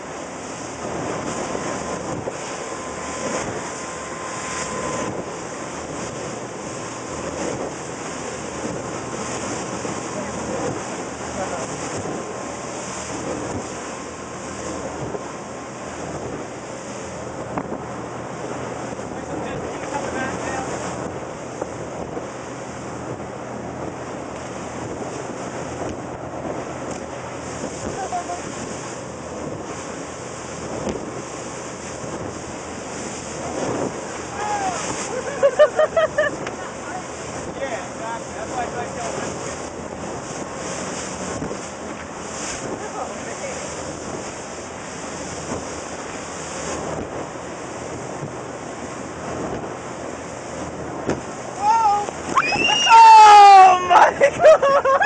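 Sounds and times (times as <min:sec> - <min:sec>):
boat engine drone: 0:00.0 - 0:55.0
water rushing past boat hull: 0:00.0 - 0:55.0
wind buffeting microphone: 0:00.0 - 0:55.0.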